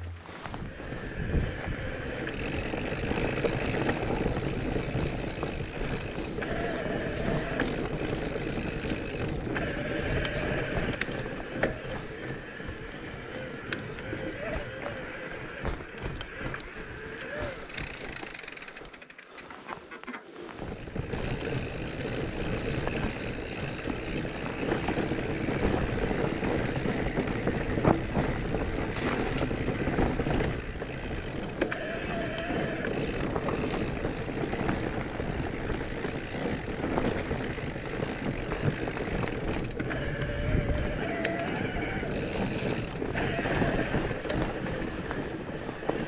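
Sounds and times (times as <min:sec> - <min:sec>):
wind rushing on microphone: 0:00.0 - 0:18.2, 0:20.6 - 0:46.0
bike tyre noise on trail: 0:00.0 - 0:46.0.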